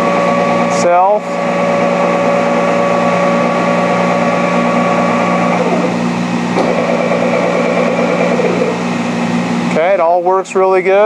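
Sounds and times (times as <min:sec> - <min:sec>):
lathe machine hum: 0:00.0 - 0:10.0.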